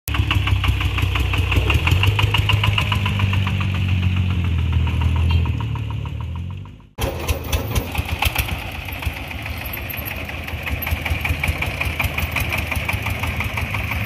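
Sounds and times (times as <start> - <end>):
diesel engine knocking: 0.1 - 14.0.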